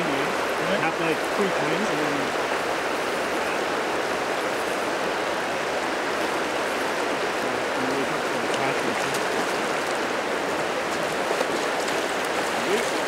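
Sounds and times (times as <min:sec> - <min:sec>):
river flowing over gravel: 0:00.0 - 0:13.0.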